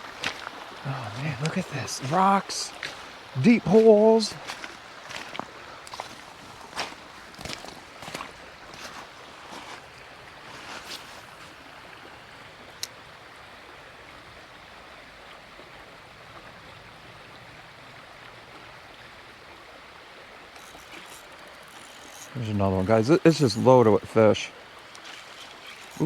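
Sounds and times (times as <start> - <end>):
creek water over rocks: 0.0 - 26.0
water swishes: 0.0 - 26.0.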